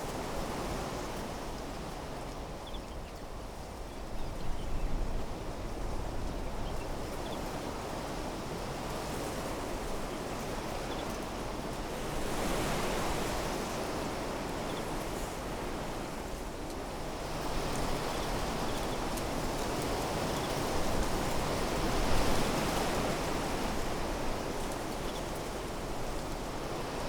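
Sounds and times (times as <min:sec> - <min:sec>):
wind rustling leaves: 0:00.0 - 0:27.0.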